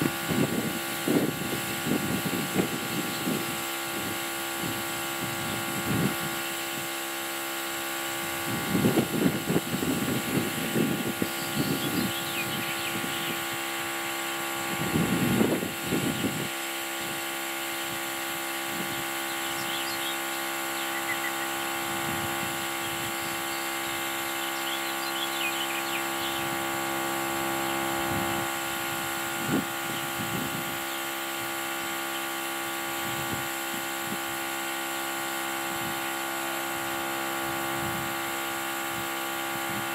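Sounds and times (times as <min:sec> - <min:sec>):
electric tire compressor humming: 0:00.0 - 0:39.9.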